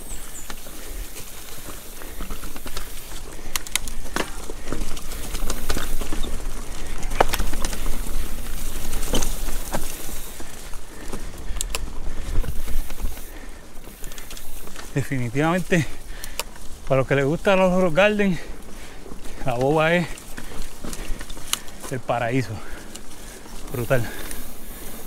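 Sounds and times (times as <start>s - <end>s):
bike clattering over rocks: 0.0s - 25.0s.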